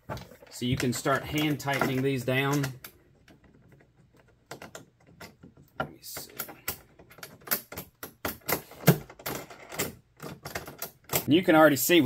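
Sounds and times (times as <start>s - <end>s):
mounting hardware clicking and rattling: 0.0s - 11.3s.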